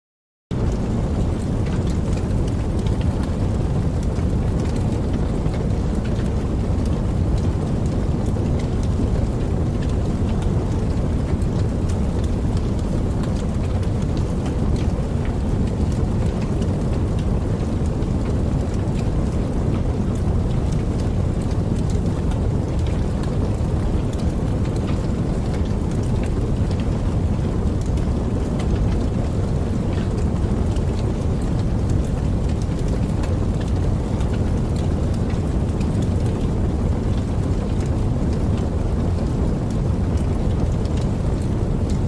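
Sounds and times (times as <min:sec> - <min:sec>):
campfire crackling: 0:00.6 - 0:42.0.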